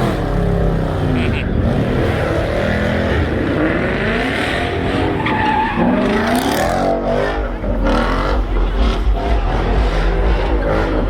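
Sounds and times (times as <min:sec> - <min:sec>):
car engine revving: 0:00.0 - 0:11.0
tires squealing and skidding: 0:00.0 - 0:11.0.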